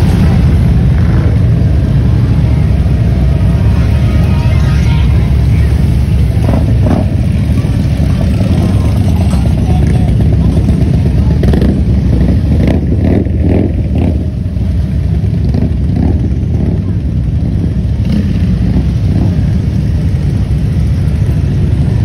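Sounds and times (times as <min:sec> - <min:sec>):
motorcycles riding slowly past: 0:00.0 - 0:22.0.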